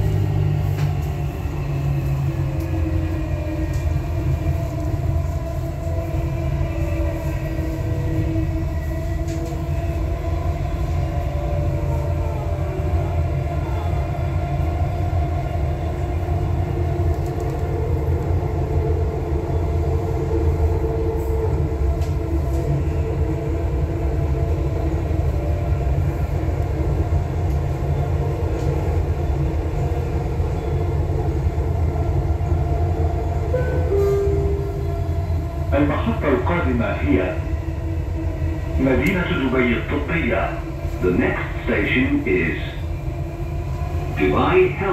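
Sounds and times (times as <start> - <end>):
train rumbling on track: 0.0 - 44.9.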